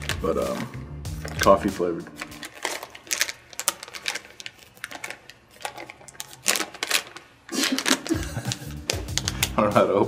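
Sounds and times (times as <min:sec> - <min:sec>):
plastic wrapper crinkling: 0:00.0 - 0:09.7.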